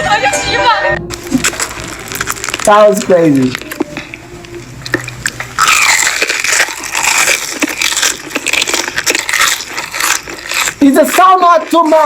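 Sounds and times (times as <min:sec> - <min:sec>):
chewing and crunching food: 0:01.1 - 0:12.0.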